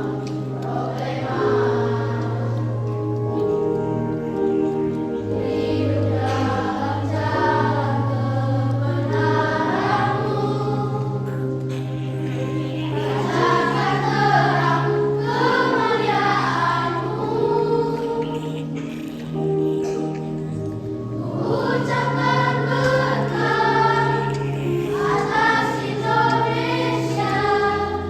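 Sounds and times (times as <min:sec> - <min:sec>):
children's choir singing: 0:00.0 - 0:28.0
low held accompaniment notes: 0:00.0 - 0:28.0.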